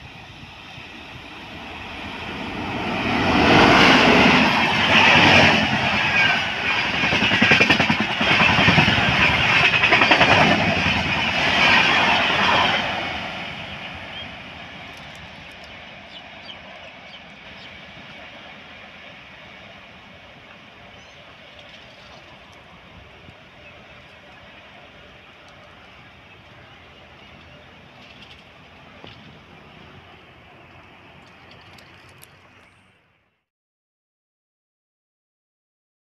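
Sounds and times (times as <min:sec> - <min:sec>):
train passing at speed: 0:00.0 - 0:33.2.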